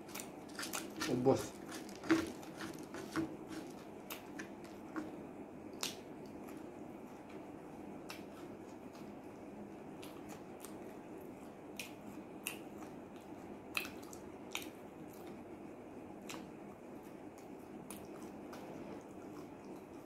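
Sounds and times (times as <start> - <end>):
wet chewing: 0.0 - 15.5, 16.2 - 20.0
steady low hum: 0.0 - 20.0.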